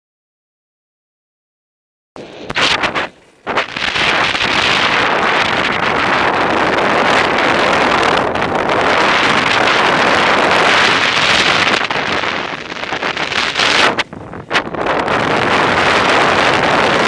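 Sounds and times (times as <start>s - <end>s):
strong wind blasting microphone: 2.2s - 17.0s.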